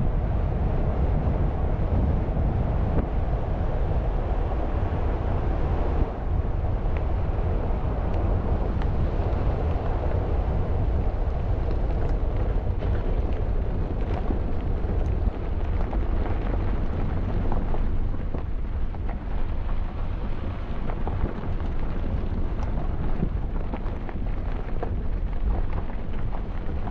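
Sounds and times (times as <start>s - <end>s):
gravel clicks and ticks: 0.0s - 26.9s
wind buffeting microphone: 0.0s - 26.9s.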